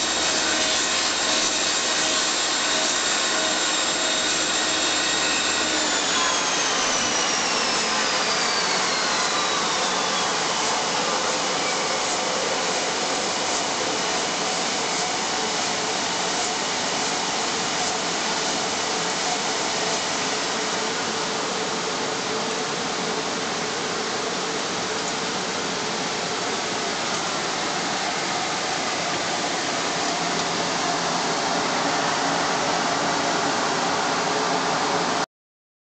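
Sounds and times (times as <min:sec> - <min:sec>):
lathe whirring: 0:00.0 - 0:35.2.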